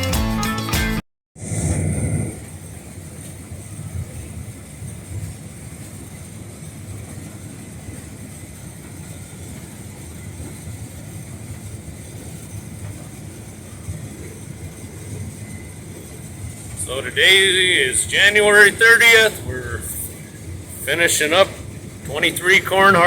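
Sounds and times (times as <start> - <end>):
combine harvester drone: 1.4 - 23.0.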